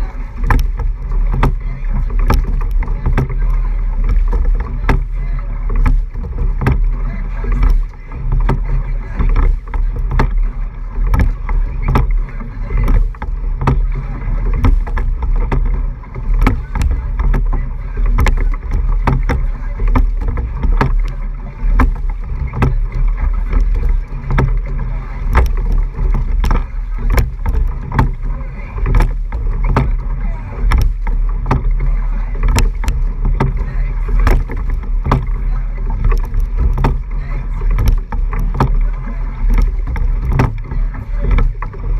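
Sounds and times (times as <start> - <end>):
boat and oars clicking: 0.0 - 41.9
water rushing past hull: 0.0 - 41.9.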